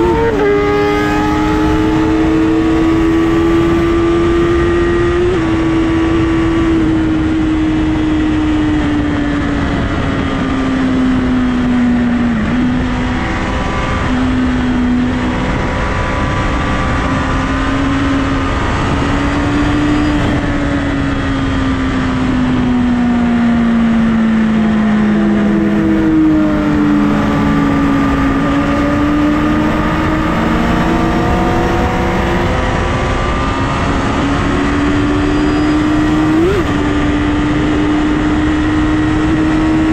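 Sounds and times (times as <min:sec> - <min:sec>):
motorcycle engine at speed: 0:00.0 - 0:39.9
wind noise: 0:00.0 - 0:39.9.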